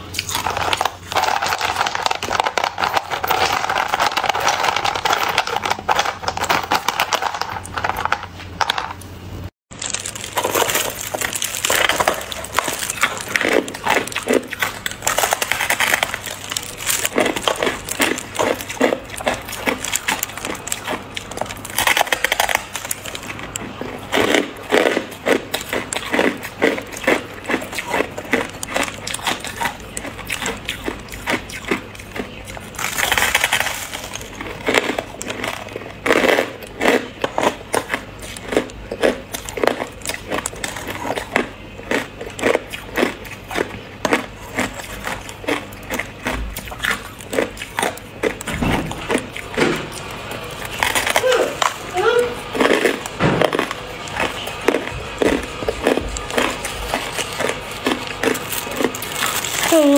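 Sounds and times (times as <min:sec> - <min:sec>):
ice crunching while chewed: 0:00.0 - 0:09.1, 0:09.7 - 0:59.9.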